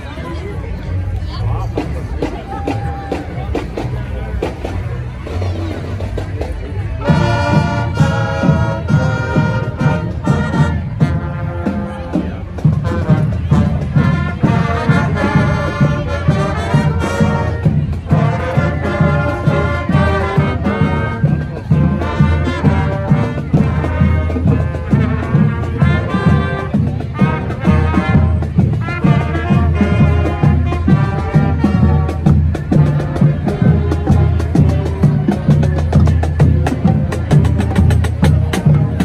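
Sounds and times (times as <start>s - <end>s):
marching band playing: 0.0s - 39.0s.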